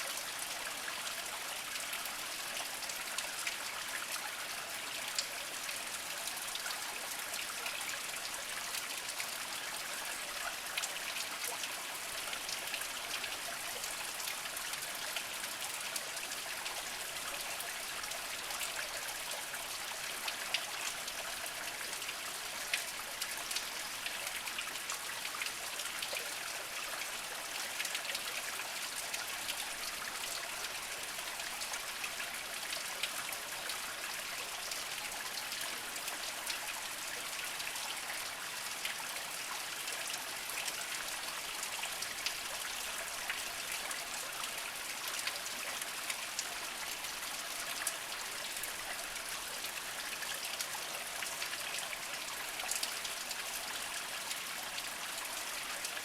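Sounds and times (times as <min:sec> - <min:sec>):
water trickling over rocks: 0:00.0 - 0:56.0.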